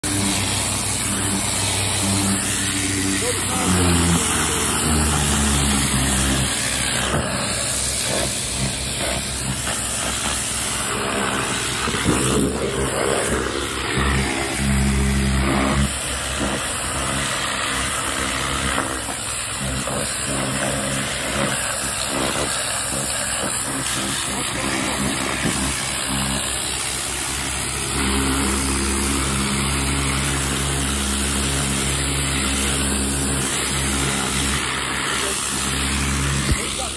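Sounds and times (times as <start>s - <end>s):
pressure washer engine running: 0.0s - 36.9s
water jet hissing on concrete: 0.0s - 36.9s.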